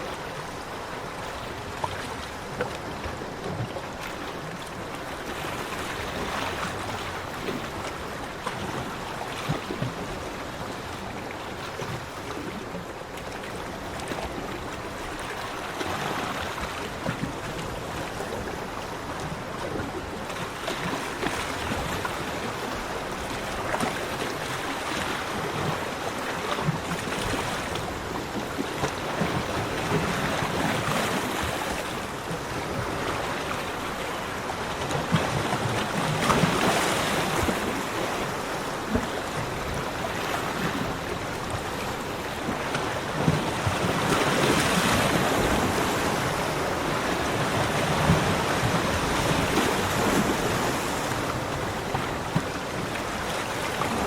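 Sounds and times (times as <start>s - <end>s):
sea waves on beach: 0.0s - 54.0s.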